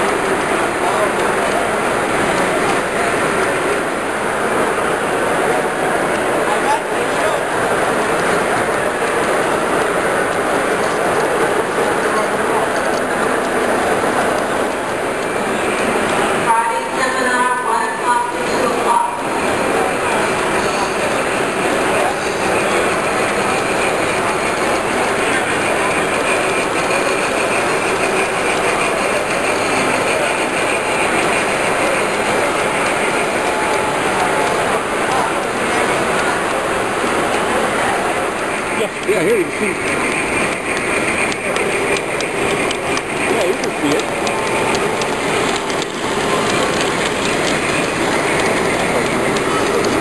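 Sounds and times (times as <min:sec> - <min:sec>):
model train rolling on track: 0:00.0 - 0:50.0.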